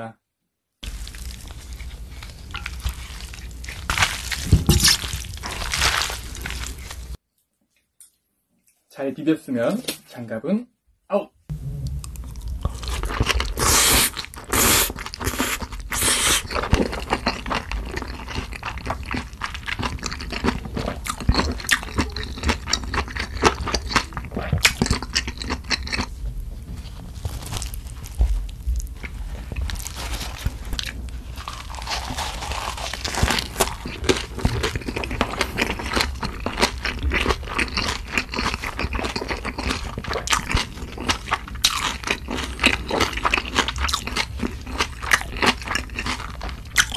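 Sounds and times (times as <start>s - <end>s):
wet chewing with crunchy bites: 0.8s - 7.2s, 11.9s - 26.2s, 27.1s - 46.9s.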